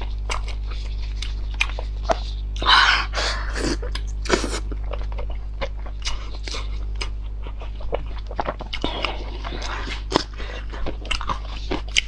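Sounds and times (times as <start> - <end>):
person chewing and crunching: 0.0 - 12.0
steady low hum: 0.0 - 12.0.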